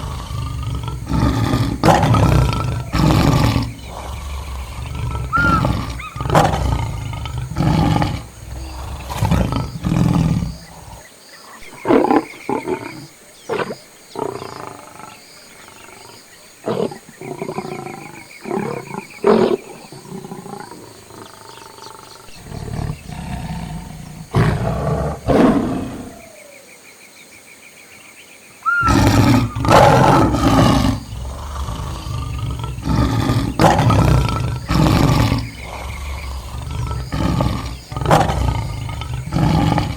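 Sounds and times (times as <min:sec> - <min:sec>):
lions roaring and grunting: 0:00.0 - 0:11.1, 0:16.7 - 0:26.4, 0:28.7 - 0:39.9.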